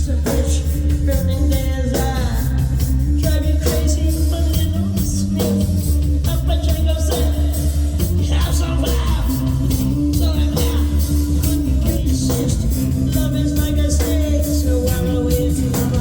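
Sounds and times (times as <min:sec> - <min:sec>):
bass line: 0:00.0 - 0:16.0
person singing: 0:00.0 - 0:16.0.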